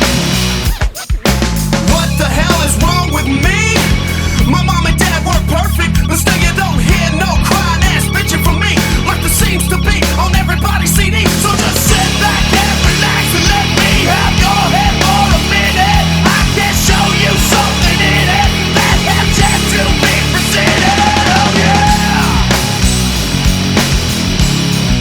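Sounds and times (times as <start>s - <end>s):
heavy rock music with singing: 0.0s - 25.0s.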